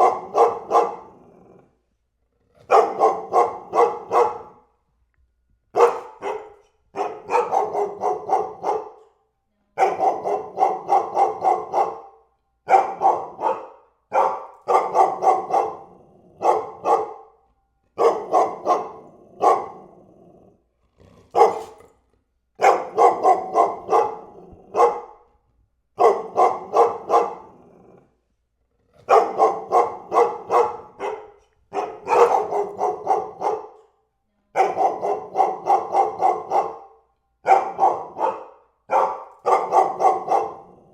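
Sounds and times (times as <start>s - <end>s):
dog barking: 0.0s - 1.2s, 2.6s - 4.7s, 5.7s - 17.4s, 18.0s - 20.0s, 21.3s - 21.9s, 22.6s - 25.4s, 26.0s - 27.7s, 29.0s - 40.9s.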